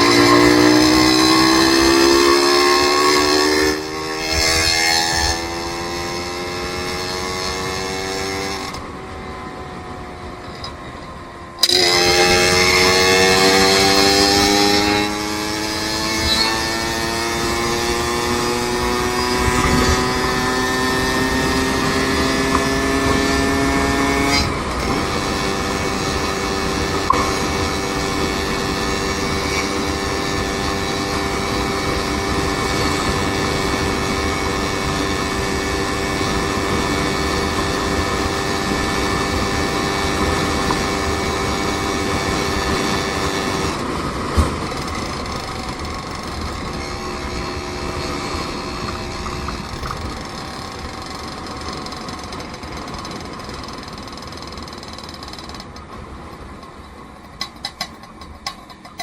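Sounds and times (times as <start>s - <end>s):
vehicle engine accelerating: 0.0s - 55.2s
road noise: 0.0s - 59.0s.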